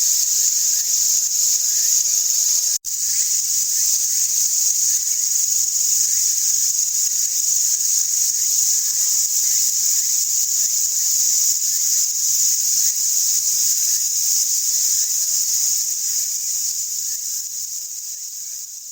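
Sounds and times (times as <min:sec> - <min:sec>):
insect chorus shrilling: 0:00.0 - 0:18.9.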